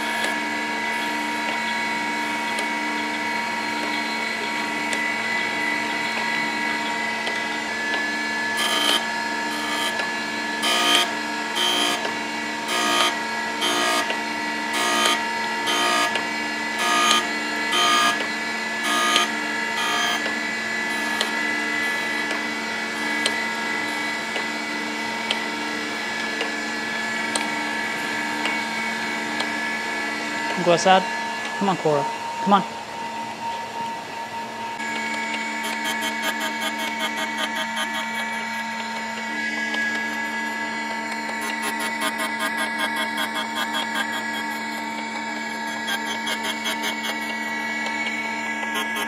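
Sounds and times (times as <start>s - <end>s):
grinding wheel rasping on steel: 0.0s - 31.7s, 34.8s - 49.0s
grinder motor hum: 0.0s - 49.0s.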